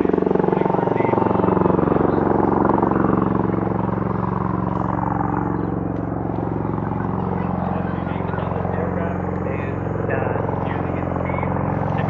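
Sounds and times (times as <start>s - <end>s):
rotors beating with pulsing drone: 0.0s - 12.0s.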